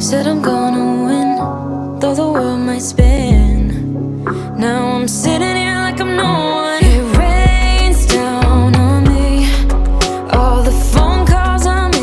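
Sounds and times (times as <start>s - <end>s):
pop song with singing and drums: 0.0s - 12.0s.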